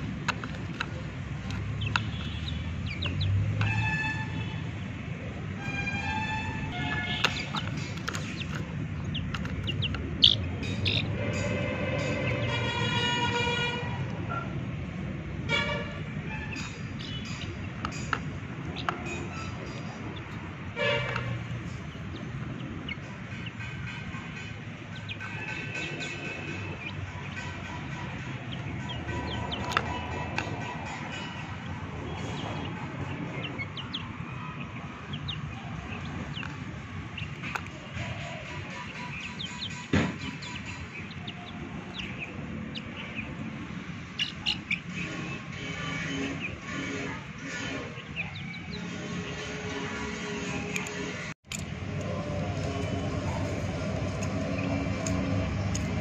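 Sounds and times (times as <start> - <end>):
chicks peeping: 0.0 - 14.7, 16.0 - 56.0.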